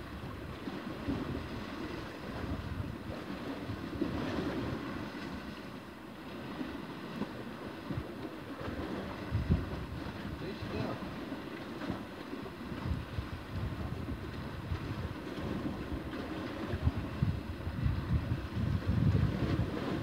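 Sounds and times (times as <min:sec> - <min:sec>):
wind buffeting microphone: 0:00.0 - 0:05.6, 0:06.4 - 0:20.0
sea waves against rocks: 0:00.0 - 0:20.0.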